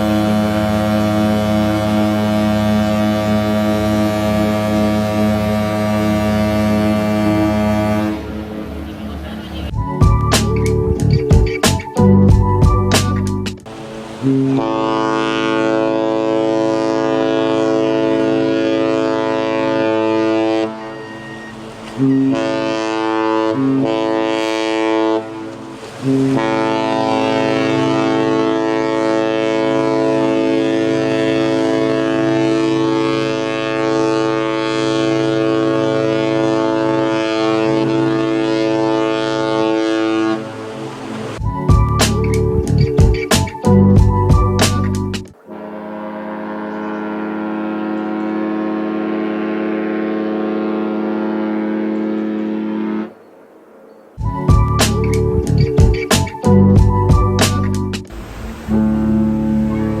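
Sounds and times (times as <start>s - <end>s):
ship's horn blasts: 0.0s - 10.9s, 13.7s - 42.7s, 43.7s - 55.6s, 56.5s - 60.0s.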